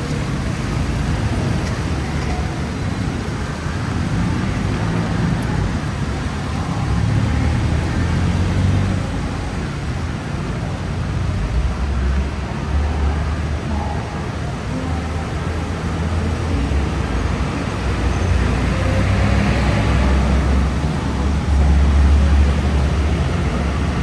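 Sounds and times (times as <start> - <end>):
vehicles passing: 0.0 - 24.0.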